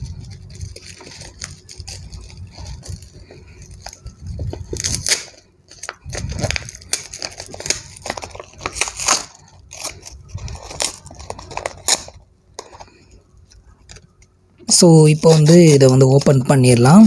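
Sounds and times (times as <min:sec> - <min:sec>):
paper envelope rustling: 0:00.0 - 0:14.4.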